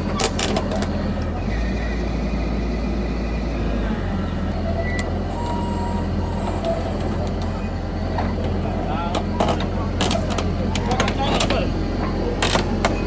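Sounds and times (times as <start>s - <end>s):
diesel construction machinery rumbling: 0.0s - 13.0s.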